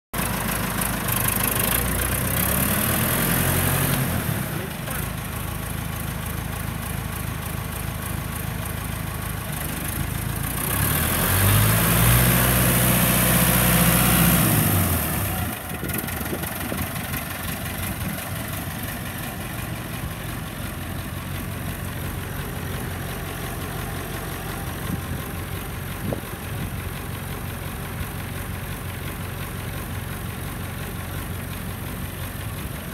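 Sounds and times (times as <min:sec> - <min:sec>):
tractor diesel engine running: 0:00.2 - 0:32.9.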